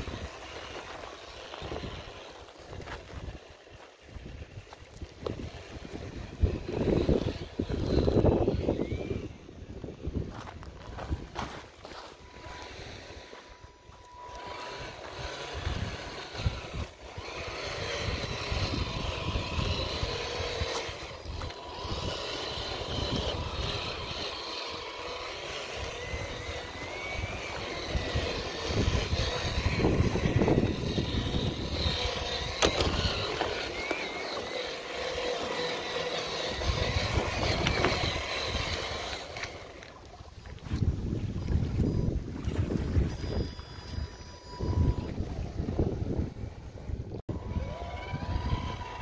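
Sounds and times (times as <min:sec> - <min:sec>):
toy car electric motor whining: 0:00.0 - 0:49.0
wind buffeting microphone: 0:00.0 - 0:49.0.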